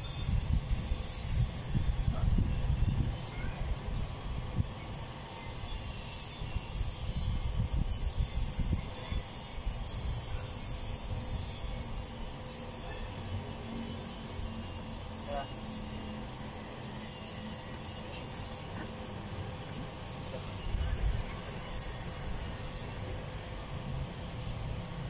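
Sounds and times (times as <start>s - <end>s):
wind buffeting microphone: 0.0s - 14.9s, 18.2s - 25.0s.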